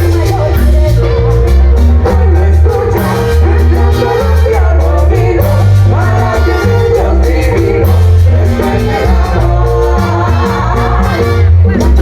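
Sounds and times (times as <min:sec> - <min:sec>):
heavy bass: 0:00.0 - 0:12.0
latin dance band playing: 0:00.0 - 0:12.0
person singing: 0:00.0 - 0:12.0.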